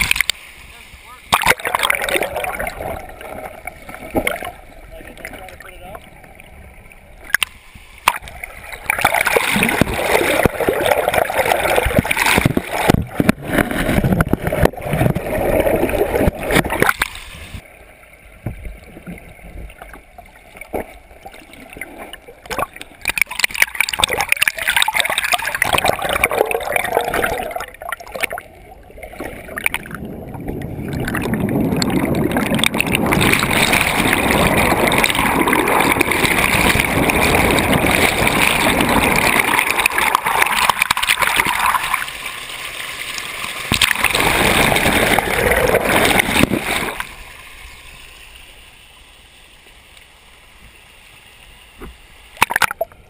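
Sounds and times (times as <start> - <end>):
muffled underwater river rushing: 0.0 - 53.0.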